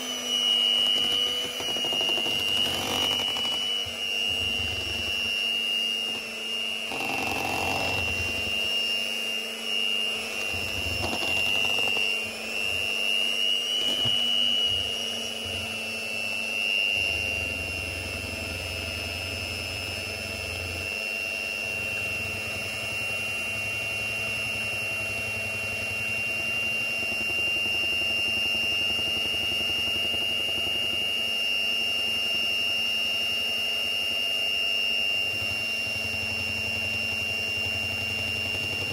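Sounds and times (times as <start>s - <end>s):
electric hand mixer whining: 0.0s - 38.9s.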